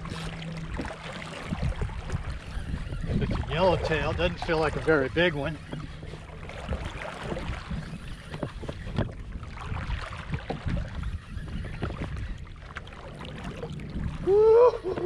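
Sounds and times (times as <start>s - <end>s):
water and wind rumble: 0.0s - 15.0s.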